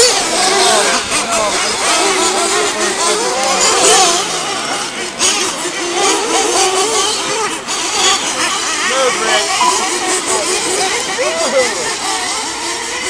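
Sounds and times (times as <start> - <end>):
small rc engines revving: 0.0 - 13.0.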